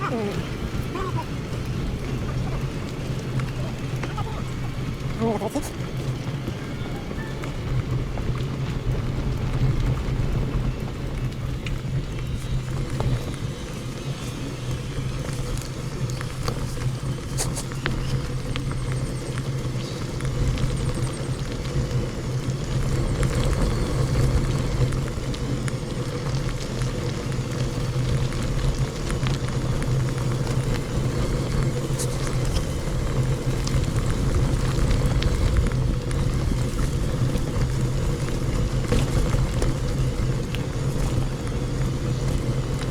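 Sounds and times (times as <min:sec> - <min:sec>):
faint ticks and rattles: 0:00.0 - 0:42.9
vehicle rumbling on dirt road: 0:00.0 - 0:42.9.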